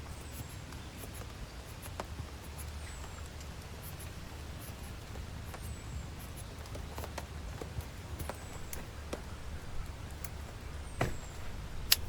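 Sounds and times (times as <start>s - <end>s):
light taps and clicks: 0.3s - 12.0s.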